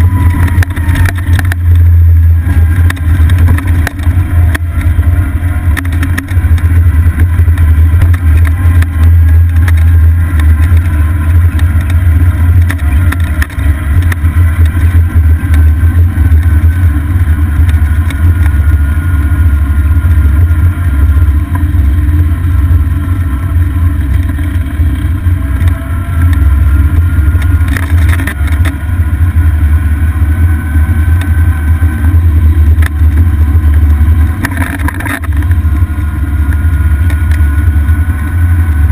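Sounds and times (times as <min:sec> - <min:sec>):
faint motor whine: 0:00.0 - 0:38.9
wind and road noise rumble: 0:00.0 - 0:38.9.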